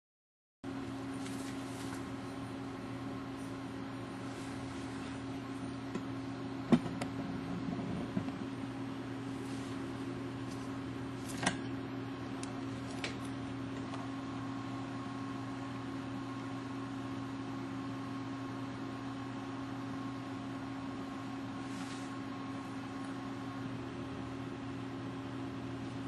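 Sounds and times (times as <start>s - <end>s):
mechanical hum with hiss: 0.7s - 26.0s.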